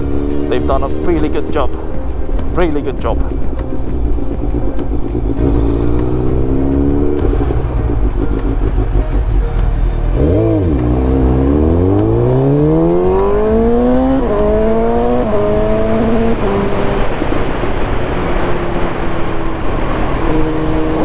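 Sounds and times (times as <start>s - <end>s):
motorcycle engine accelerating: 0.0s - 21.0s
quickshifter upshifts: 0.0s - 21.0s.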